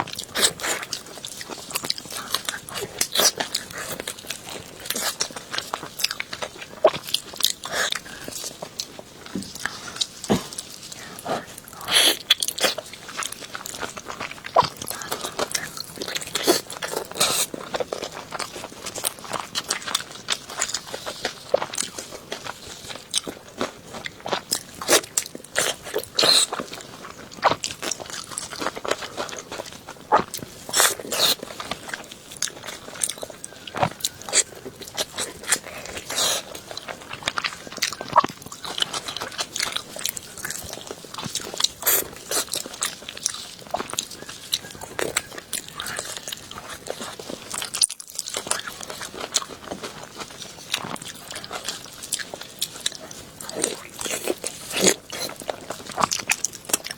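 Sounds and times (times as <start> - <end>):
teeth crunching on bone: 0.0 - 56.9
wet chewing: 0.0 - 56.9.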